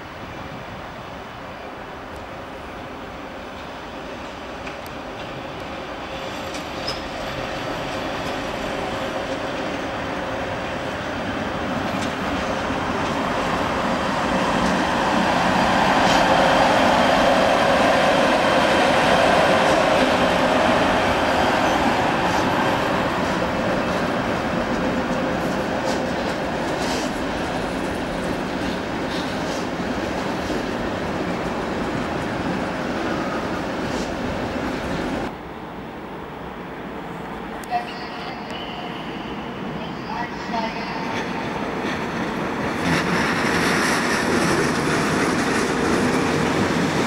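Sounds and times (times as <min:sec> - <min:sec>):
electric locomotive passing: 0:00.0 - 0:47.0.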